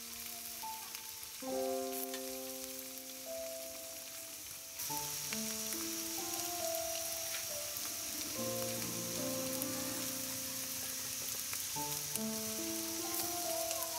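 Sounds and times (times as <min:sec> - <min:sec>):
food sizzling in a wok: 0:00.0 - 0:13.9
soft background music: 0:00.0 - 0:13.9.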